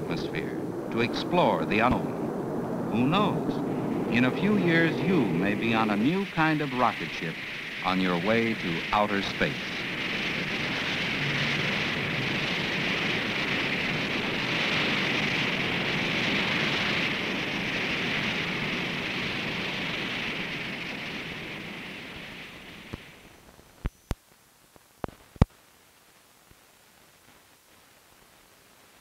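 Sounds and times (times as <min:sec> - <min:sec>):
rocket plane engine rush: 0:00.0 - 0:23.4.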